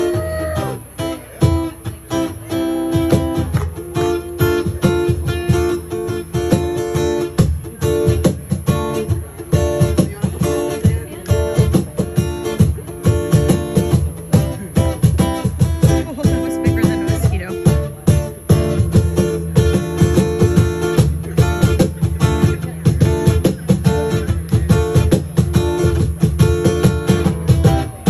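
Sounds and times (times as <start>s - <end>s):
band playing live: 0.0s - 28.0s
steady drum beat: 0.0s - 28.0s
strummed acoustic guitar: 0.0s - 28.0s.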